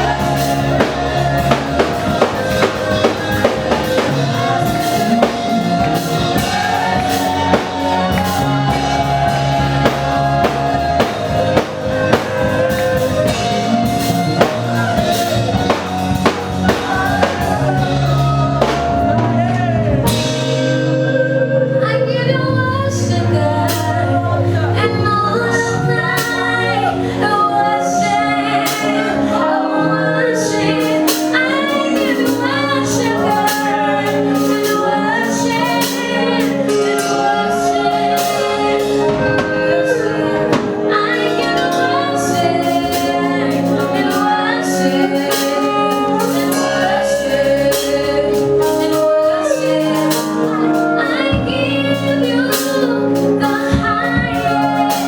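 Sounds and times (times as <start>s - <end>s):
band accompaniment: 0.0s - 55.0s
woman singing: 0.0s - 55.0s.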